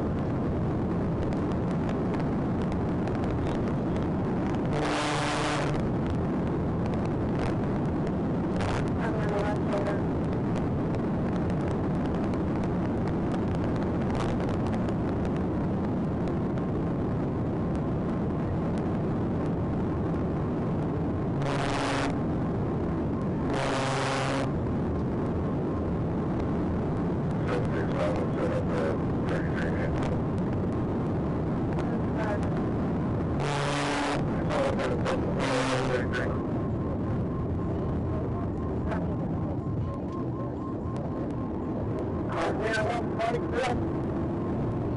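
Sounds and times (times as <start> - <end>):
loud noise bursts: 0.0 - 40.0, 40.6 - 44.9
car engine and road noise: 0.0 - 44.9.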